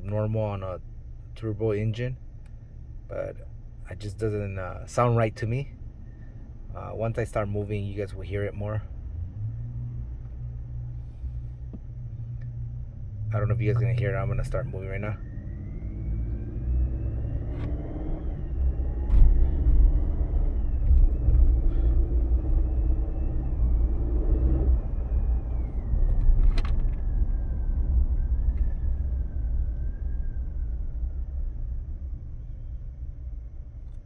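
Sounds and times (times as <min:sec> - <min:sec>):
high whining hum: 0:00.0 - 0:34.0
truck engine accelerating: 0:00.0 - 0:34.0.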